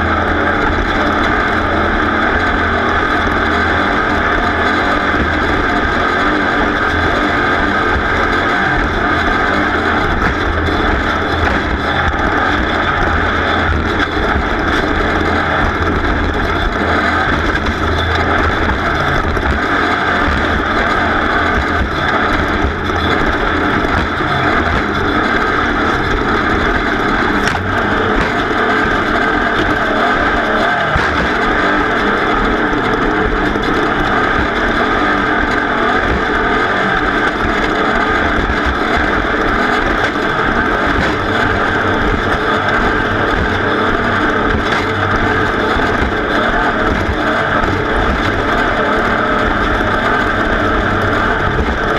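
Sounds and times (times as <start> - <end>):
racing engine at high revs: 0.0 - 51.9.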